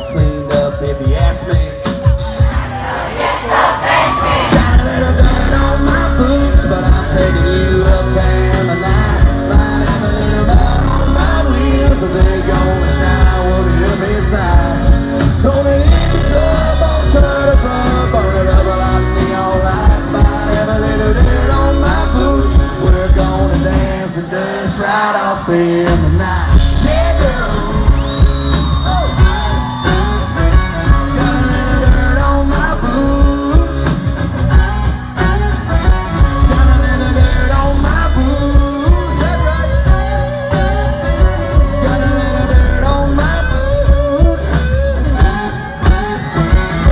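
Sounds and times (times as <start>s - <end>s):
live country band: 0.0s - 46.9s
person singing: 3.5s - 46.9s
heavy bass line: 4.4s - 24.1s, 25.8s - 46.9s.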